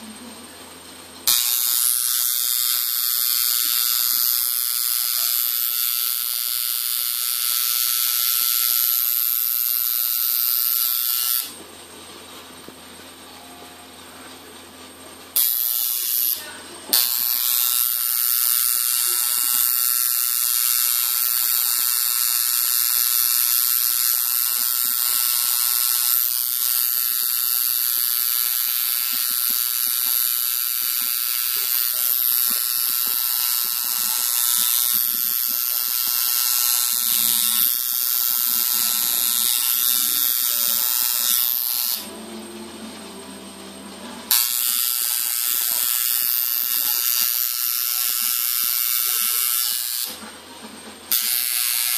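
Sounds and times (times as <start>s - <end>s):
tattoo machine buzzing: 1.2s - 11.6s, 15.3s - 42.2s, 44.2s - 50.3s, 51.0s - 51.9s.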